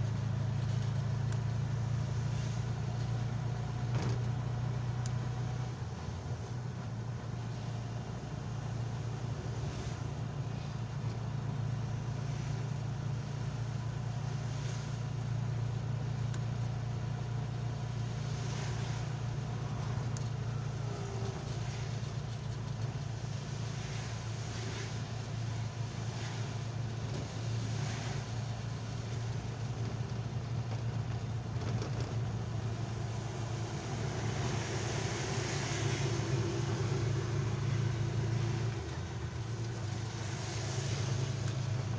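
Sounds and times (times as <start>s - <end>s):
tyres hissing on wet road: 0.0s - 3.9s, 4.6s - 31.5s, 32.2s - 41.9s
vehicle engine drone: 0.0s - 41.9s.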